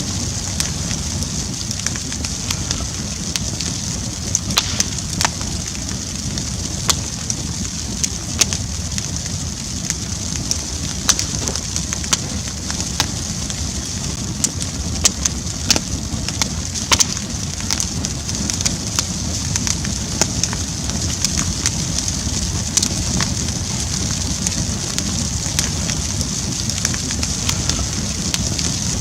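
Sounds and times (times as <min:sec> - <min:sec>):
campfire crackling and popping: 0:00.0 - 0:29.0
campfire low rumble: 0:00.0 - 0:29.0.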